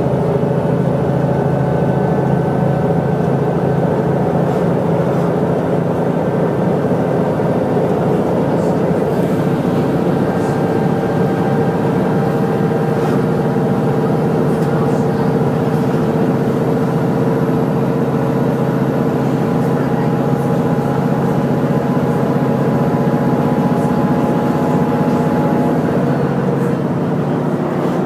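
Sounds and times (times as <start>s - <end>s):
bus engine drone and whine: 0.0s - 28.0s
road noise: 0.0s - 28.0s.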